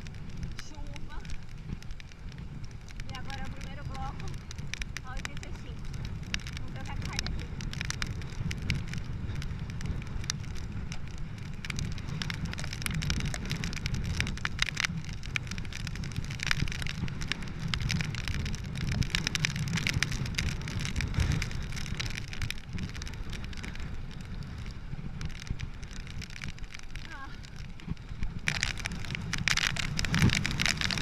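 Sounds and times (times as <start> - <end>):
raindrops ticking on microphone: 0.0 - 31.0
wind rumbling on microphone: 0.0 - 31.0.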